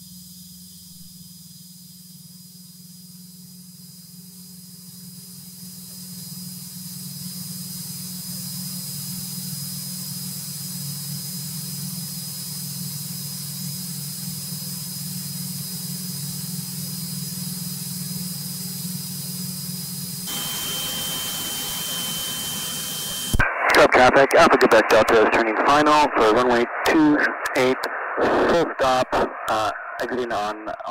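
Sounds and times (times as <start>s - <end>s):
propeller aircraft engine drone: 0.0s - 30.8s.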